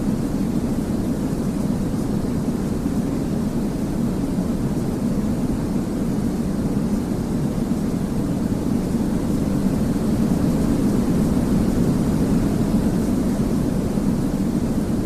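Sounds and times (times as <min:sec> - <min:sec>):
deep white noise hiss: 0:00.0 - 0:15.0.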